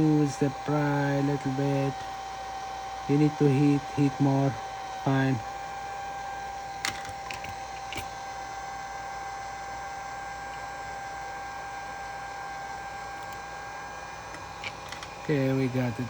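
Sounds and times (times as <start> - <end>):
hot-air gun blowing with whine: 0.0 - 16.0.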